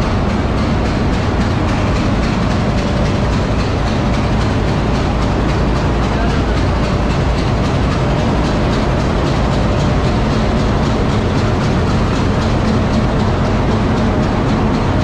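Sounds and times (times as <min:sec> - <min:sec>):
locomotive engine idling: 0:00.0 - 0:15.0.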